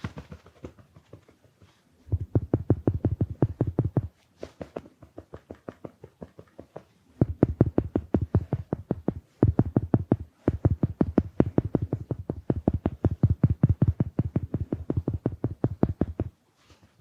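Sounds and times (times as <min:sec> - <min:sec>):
sponge patting microphone: 0:00.2 - 0:17.0.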